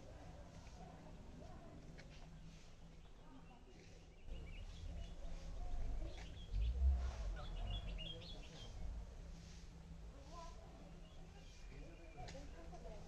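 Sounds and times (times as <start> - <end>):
small birds chirping: 0.0 - 9.6, 10.2 - 13.0
low rumble on microphone: 0.0 - 13.0.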